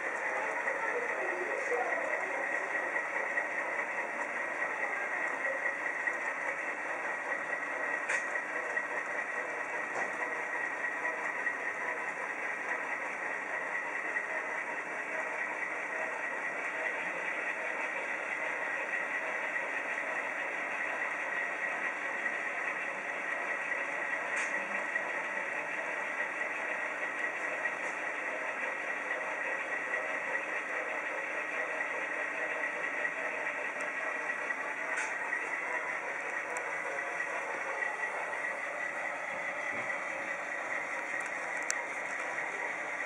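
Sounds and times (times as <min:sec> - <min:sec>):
model freight cars rolling on track: 0:00.0 - 0:43.0
model locomotive sound through speakers: 0:00.0 - 0:43.0.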